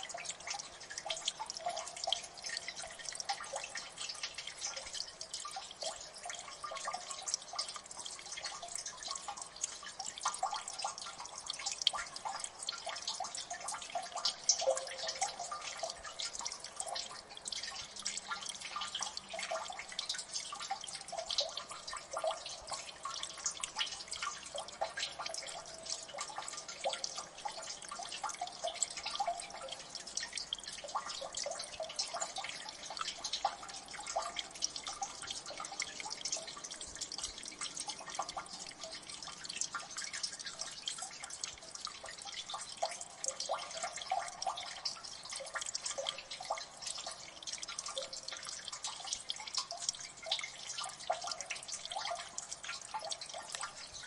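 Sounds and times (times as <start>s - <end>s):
water dripping: 0.0s - 54.0s.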